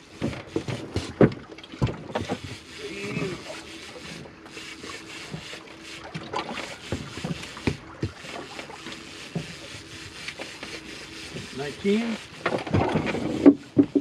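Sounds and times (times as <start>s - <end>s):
boat engine hum: 0.0s - 14.0s.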